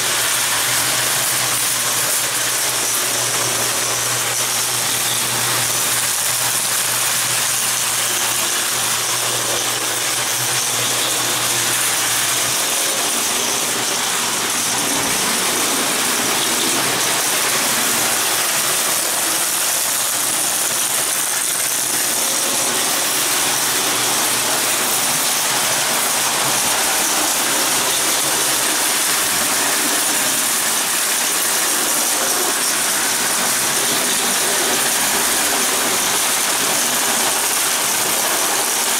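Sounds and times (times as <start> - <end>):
toy train wheels clattering: 0.0 - 38.9.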